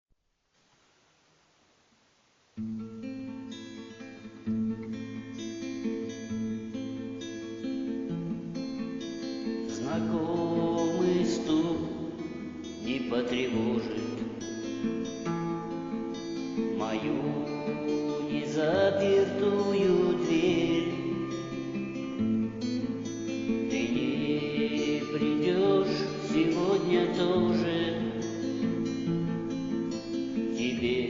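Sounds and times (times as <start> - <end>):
sliding guitar melody: 2.6 - 31.0
strummed acoustic guitar: 2.6 - 31.0.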